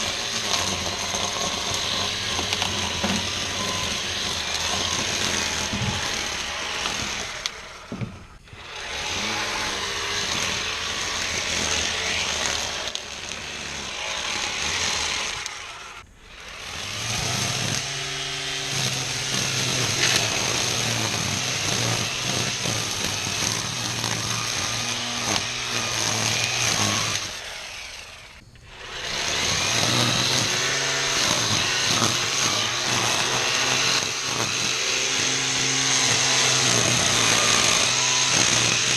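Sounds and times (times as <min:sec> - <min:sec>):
string trimmer cutting weeds: 0:00.0 - 0:38.9.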